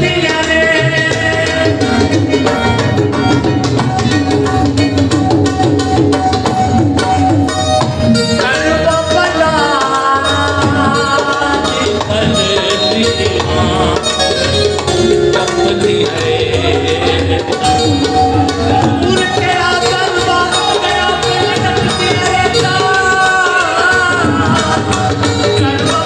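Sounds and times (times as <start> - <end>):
fast hand-drumming: 0.0 - 26.0
man singing through loudspeaker: 0.0 - 26.0.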